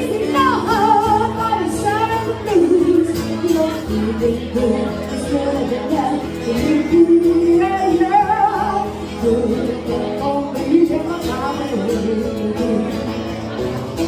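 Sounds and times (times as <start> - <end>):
woman singing: 0.0 - 13.4
acoustic guitars strummed: 0.0 - 14.0.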